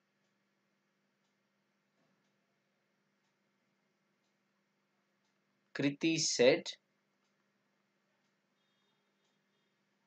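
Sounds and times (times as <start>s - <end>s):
faint ticks: 0.0s - 5.6s, 6.8s - 10.0s
faint steady hum: 0.0s - 10.0s.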